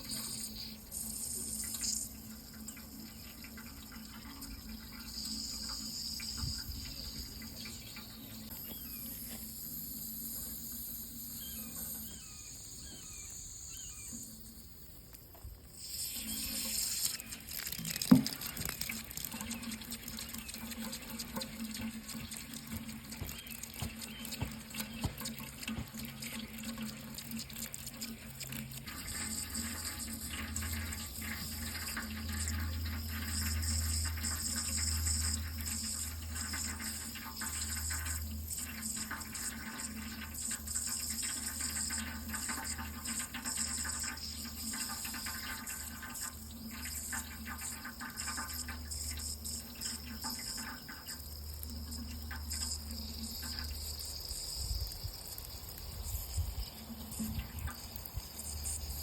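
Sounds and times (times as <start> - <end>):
tap water running into sink: 0.0 - 9.6, 15.3 - 59.0.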